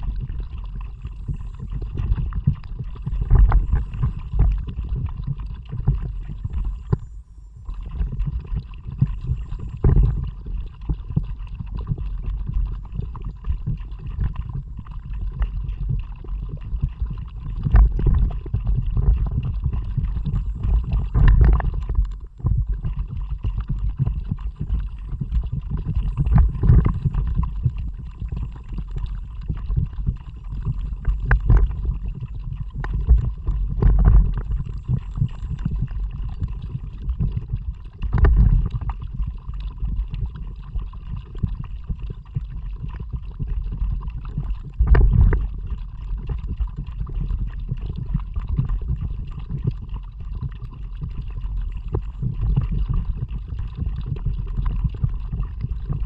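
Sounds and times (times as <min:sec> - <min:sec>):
water noise from kayak: 0:00.0 - 0:56.0.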